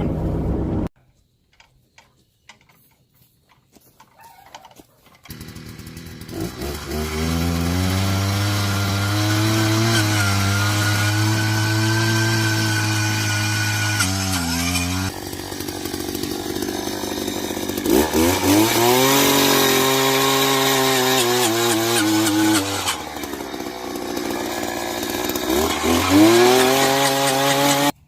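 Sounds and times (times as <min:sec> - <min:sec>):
small gasoline engine running: 0:05.2 - 0:28.0.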